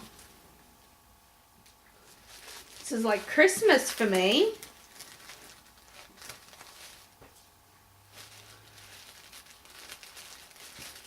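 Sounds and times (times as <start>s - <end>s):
paper wrapping crinkling: 1.6s - 11.0s.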